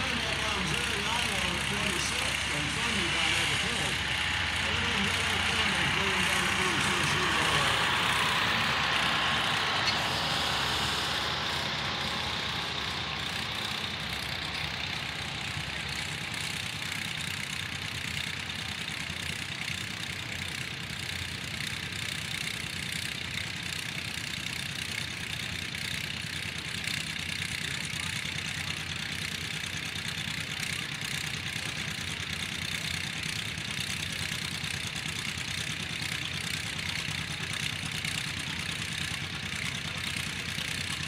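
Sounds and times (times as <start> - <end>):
other tractor engines: 0.0 - 41.0
tractor engine idling: 0.0 - 41.0.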